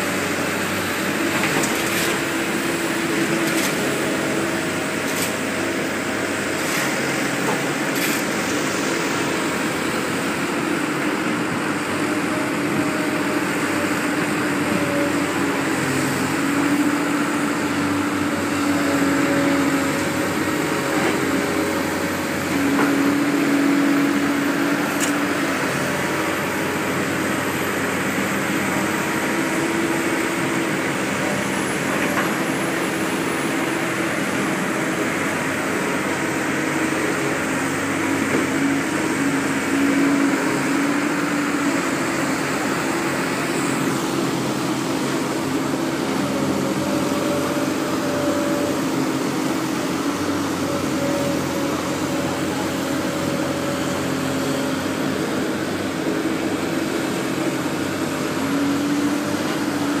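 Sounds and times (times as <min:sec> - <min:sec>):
excavator engine and hydraulics droning: 0:00.0 - 1:00.0.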